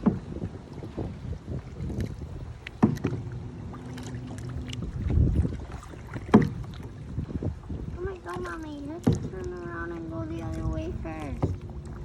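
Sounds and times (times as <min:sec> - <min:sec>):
kayak paddles dipping: 0:00.0 - 0:12.0
water sloshing around boat: 0:00.0 - 0:12.0.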